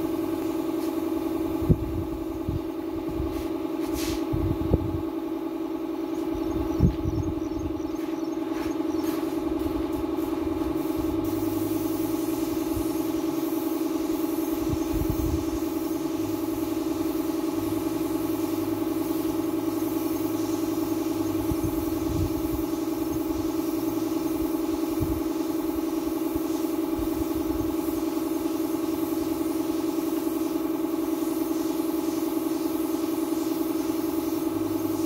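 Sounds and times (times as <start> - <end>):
spray gun air hiss: 0.0 - 7.0, 8.0 - 35.0
air compressor humming: 0.0 - 35.0.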